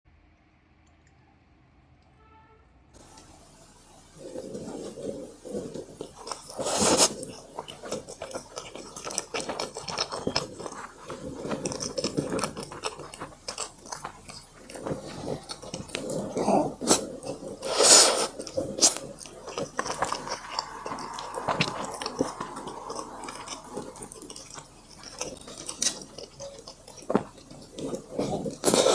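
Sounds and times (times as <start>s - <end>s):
person chewing and crunching food: 4.1s - 28.9s.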